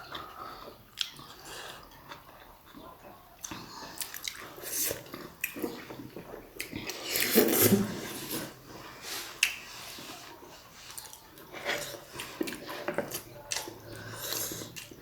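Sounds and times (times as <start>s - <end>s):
chewing with wet smacking: 0.0s - 15.0s.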